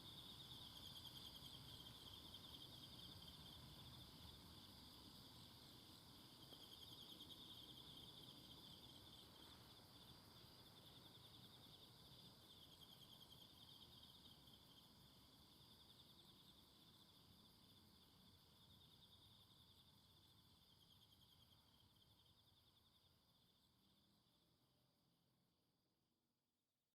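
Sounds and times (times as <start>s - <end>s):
insects trilling: 0.0s - 24.4s
soft background hiss: 0.0s - 24.6s.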